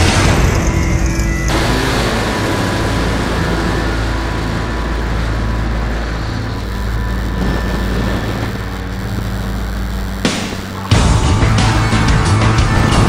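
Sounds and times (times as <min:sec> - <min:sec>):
model plane engine and propeller: 0:00.0 - 0:13.0
wind rushing over microphone: 0:00.0 - 0:13.0.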